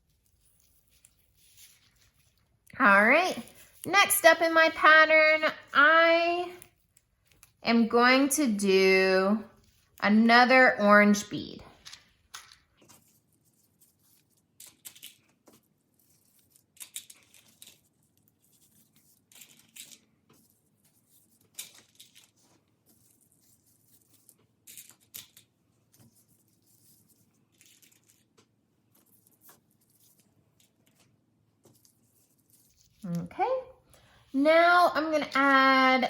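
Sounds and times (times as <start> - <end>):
rustling and scratching of beads: 0.0 - 10.5, 11.6 - 36.0.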